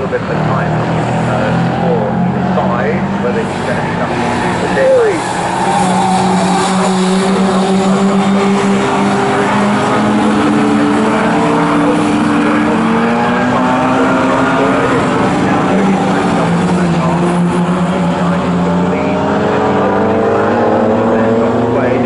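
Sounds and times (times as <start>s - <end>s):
racing car engines: 0.0s - 22.0s.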